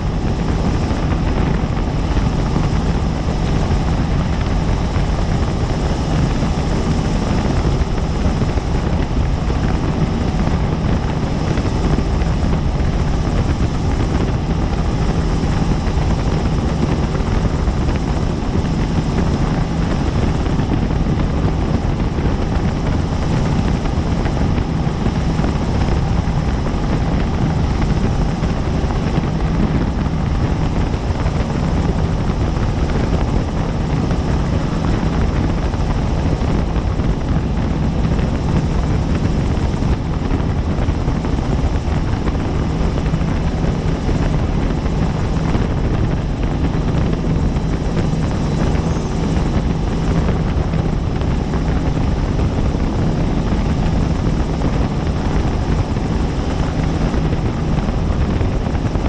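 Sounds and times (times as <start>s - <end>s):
helicopter rotor and turbine noise: 0.0s - 59.0s.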